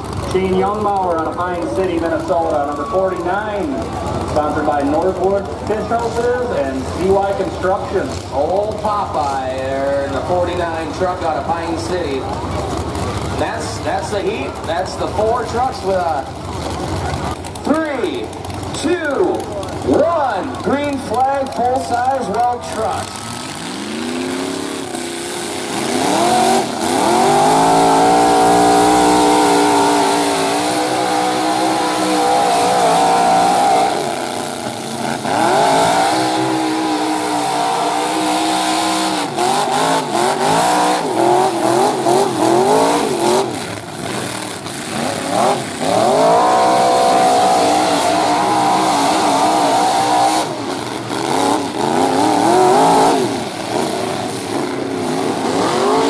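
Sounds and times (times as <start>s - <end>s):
pickup truck engines revving: 0.0s - 56.0s.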